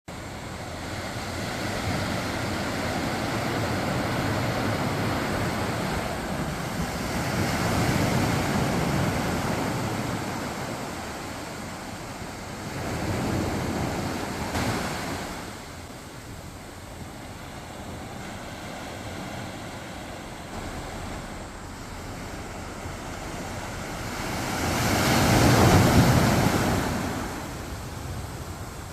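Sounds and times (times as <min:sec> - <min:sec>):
waves washing up beach: 0:00.1 - 0:28.9.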